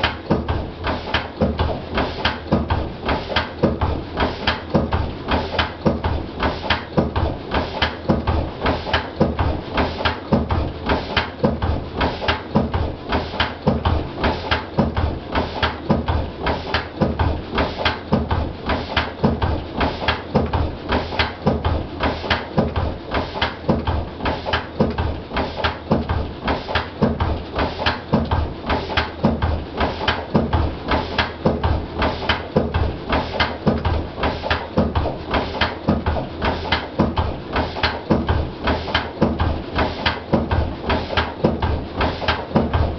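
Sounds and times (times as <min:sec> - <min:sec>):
diesel engine thumping steadily: 0:00.0 - 0:42.9.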